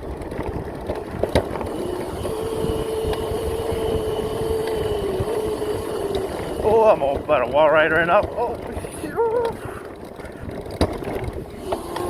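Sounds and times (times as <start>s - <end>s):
low rumble: 0.0s - 11.7s
electric motor whine: 0.2s - 9.9s, 10.7s - 12.0s.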